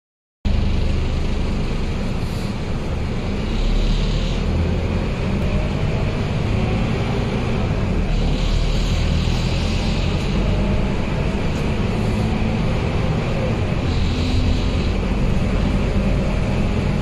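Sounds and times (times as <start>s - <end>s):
bus diesel engine rumble: 0.5s - 17.0s
road hiss: 1.5s - 17.0s.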